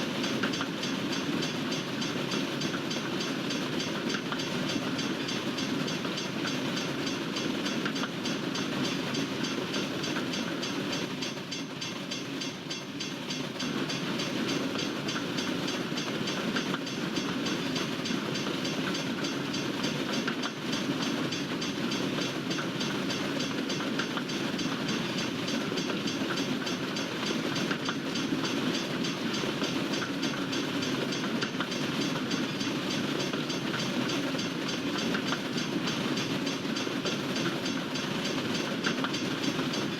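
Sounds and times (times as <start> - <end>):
train wheels rumbling on rails: 0.0 - 39.9
rapid clicking of wheels: 0.2 - 39.9.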